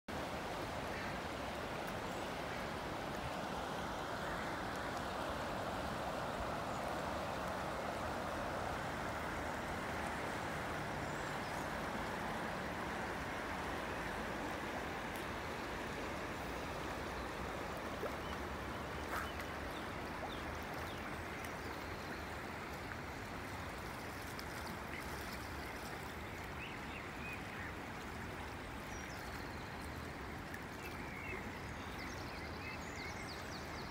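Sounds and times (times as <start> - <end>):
river current rushing: 0.1 - 33.9.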